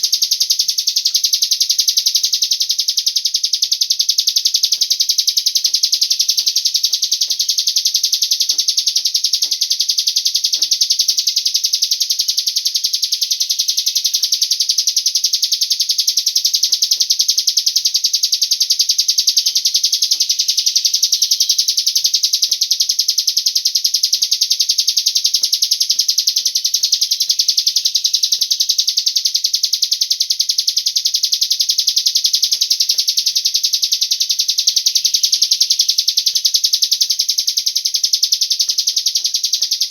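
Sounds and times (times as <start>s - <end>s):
songbird trilling chatter: 0.0s - 39.9s.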